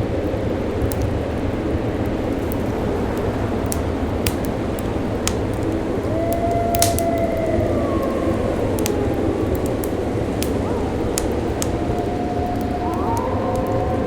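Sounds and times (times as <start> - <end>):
wood fire crackling and popping: 0.0 - 14.0
wind hissing: 0.1 - 14.0.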